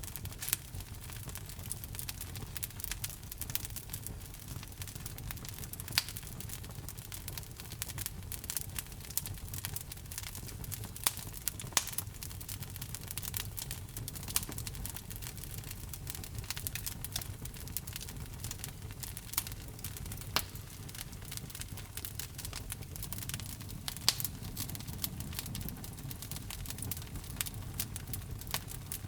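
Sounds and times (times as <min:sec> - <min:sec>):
fire crackling: 0:00.0 - 0:29.0.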